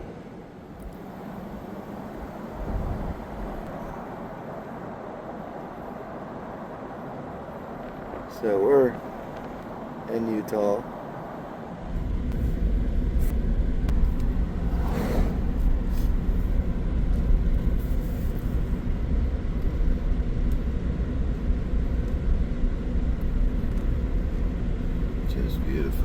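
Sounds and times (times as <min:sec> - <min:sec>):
vehicle engine and tyres rumbling: 0:00.0 - 0:26.0.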